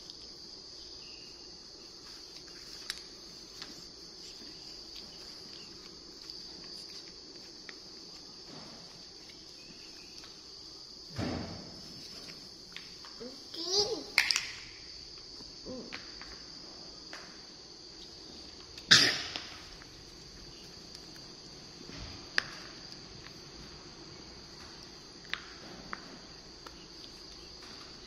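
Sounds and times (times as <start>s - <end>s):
insect chirring: 0.0s - 28.0s.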